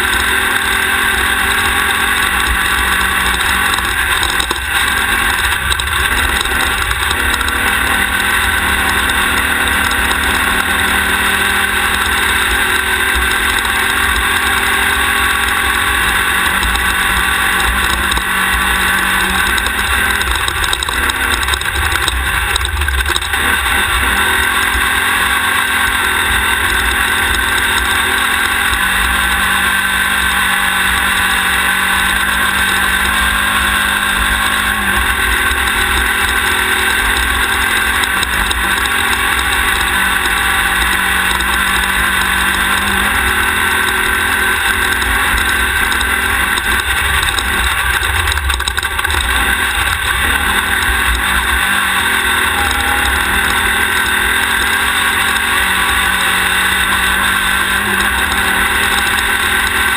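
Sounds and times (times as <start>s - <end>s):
race car engine running hard: 0.0s - 59.9s
road and wind noise: 0.0s - 59.9s.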